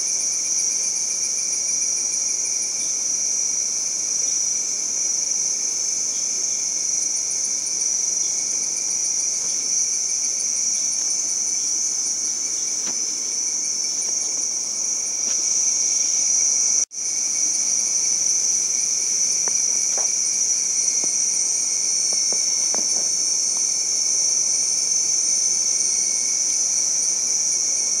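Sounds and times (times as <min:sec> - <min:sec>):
shrill insect chorus: 0:00.0 - 0:28.0.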